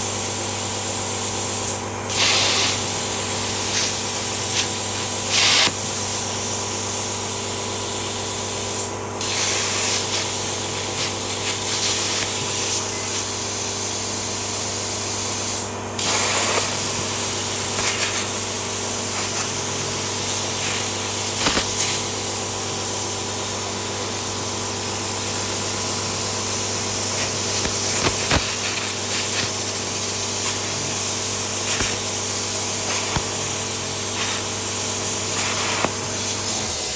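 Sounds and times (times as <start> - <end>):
electrical hum: 0.0 - 36.9
plasma cutter hissing: 0.1 - 36.9.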